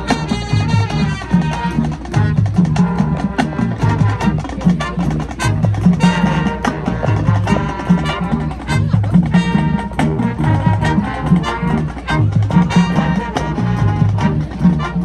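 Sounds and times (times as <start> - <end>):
brass: 0.0 - 15.0
drum and percussion strikes: 0.0 - 15.0
marching band playing: 0.0 - 15.0.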